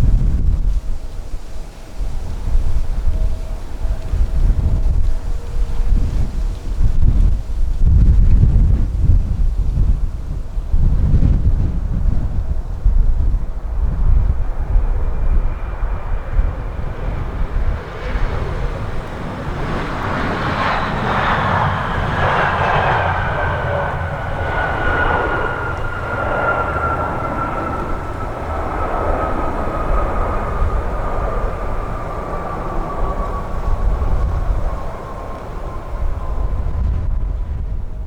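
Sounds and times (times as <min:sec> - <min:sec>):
airliner engine whine passing: 0:00.0 - 0:38.0
low gusty wind rumble: 0:00.0 - 0:38.0.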